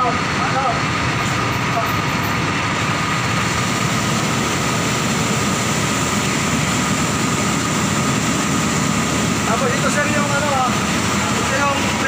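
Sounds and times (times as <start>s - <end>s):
fire truck engine drone: 0.0s - 12.0s
water pump high whine: 0.0s - 12.0s.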